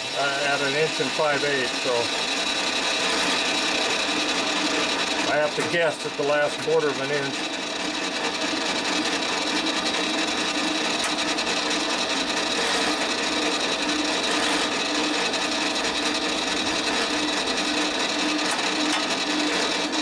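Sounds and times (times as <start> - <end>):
drill bit scraping metal: 0.0 - 20.0
lathe whine: 0.0 - 20.0.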